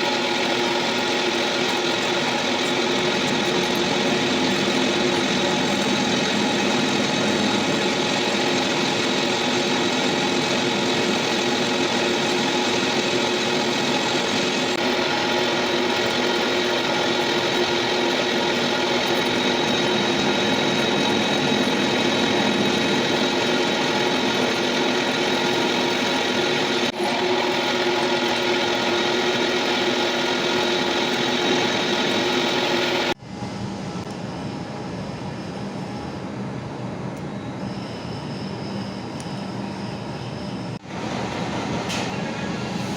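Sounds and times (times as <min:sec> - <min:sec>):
quieter machine sound: 0:00.0 - 0:42.7
metal lathe whining drone: 0:00.0 - 0:42.9.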